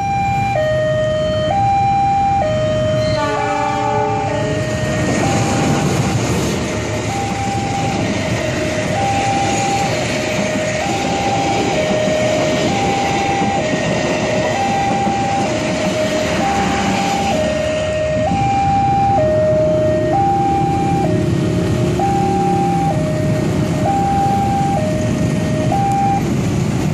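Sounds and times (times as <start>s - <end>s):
level crossing alarm two-tone: 0.0s - 6.0s, 6.8s - 26.3s
passing train rumble: 0.0s - 26.9s.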